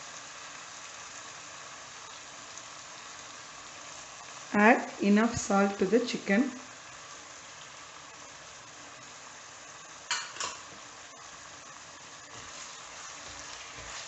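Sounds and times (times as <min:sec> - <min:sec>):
chicken and onions sizzling in oil: 0:00.0 - 0:14.0.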